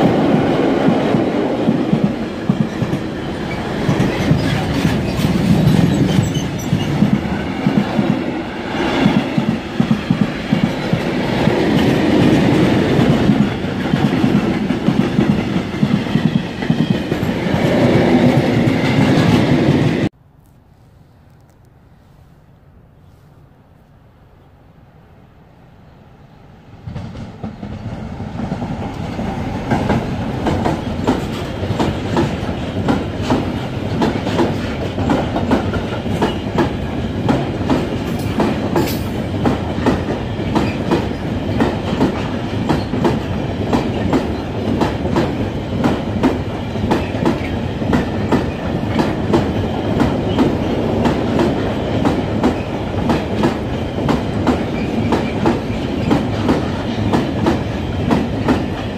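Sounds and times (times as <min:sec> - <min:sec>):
freight train rolling past: 0:00.0 - 0:20.1, 0:24.8 - 0:58.9.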